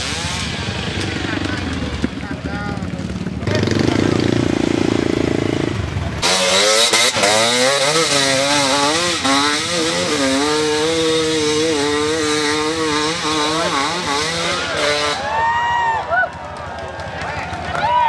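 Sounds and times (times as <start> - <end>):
motorcycle engine revving hard: 0.0 - 15.2.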